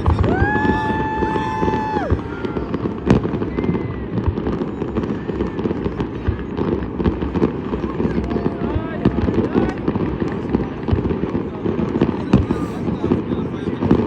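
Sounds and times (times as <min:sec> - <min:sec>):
fireworks popping and crackling: 0:00.0 - 0:14.0.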